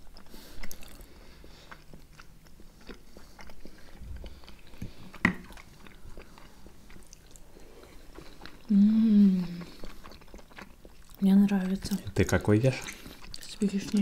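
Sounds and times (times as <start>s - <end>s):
people chewing with small clicks: 0.0s - 14.0s.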